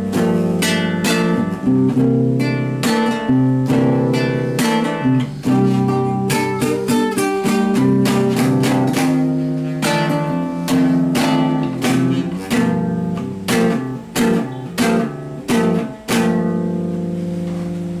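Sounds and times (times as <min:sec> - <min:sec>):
acoustic guitar strummed chords: 0:00.0 - 0:18.0.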